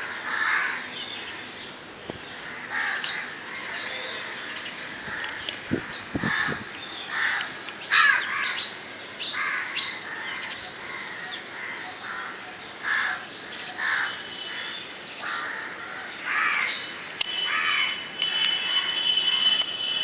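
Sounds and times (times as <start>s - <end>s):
birds calling harshly: 0.0s - 20.0s.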